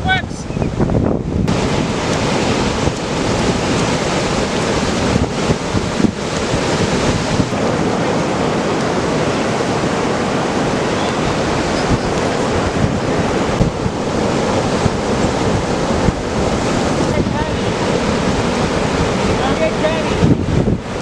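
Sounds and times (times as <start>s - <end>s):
waves breaking: 0.0s - 21.0s
wind buffeting microphone: 0.0s - 21.0s.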